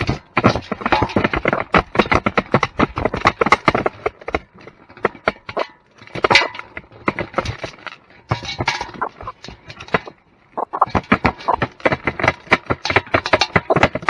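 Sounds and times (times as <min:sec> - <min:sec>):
farm animals knocking and clicking: 0:00.0 - 0:14.0.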